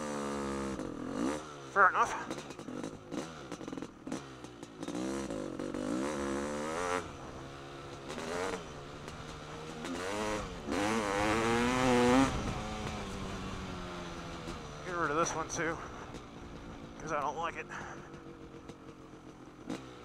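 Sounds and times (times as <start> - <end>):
dirt bike engine accelerating: 0.0 - 20.0.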